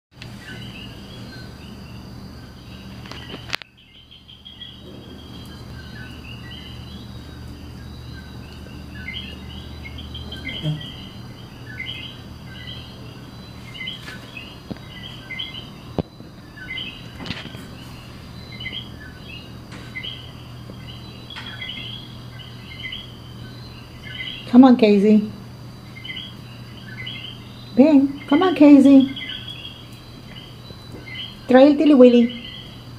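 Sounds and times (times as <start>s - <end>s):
small birds chirping: 0.2s - 32.9s
steady low hum: 0.2s - 32.9s.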